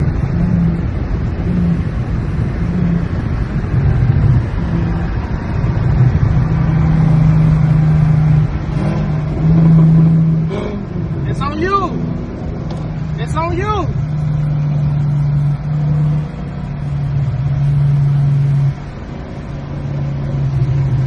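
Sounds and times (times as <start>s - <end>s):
car engine and exhaust drone: 0.0s - 21.0s.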